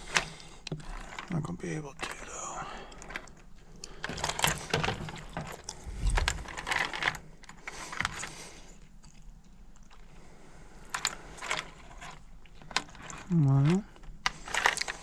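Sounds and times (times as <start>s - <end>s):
rummaging through wire and parts: 0.0s - 10.2s, 10.8s - 15.0s.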